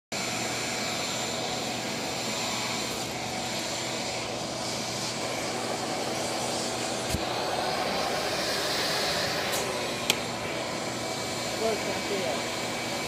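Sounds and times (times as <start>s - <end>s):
vacuum cleaner motor whining: 0.2s - 13.0s.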